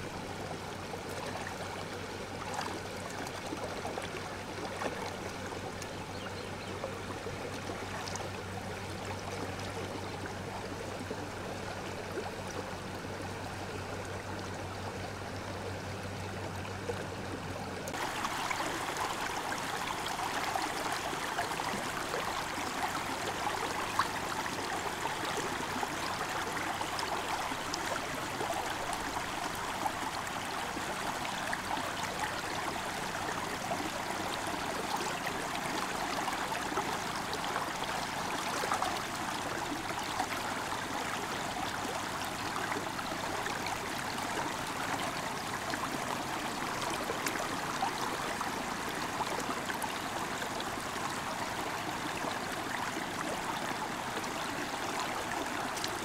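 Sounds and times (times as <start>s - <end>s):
river running over stones: 0.0s - 56.0s.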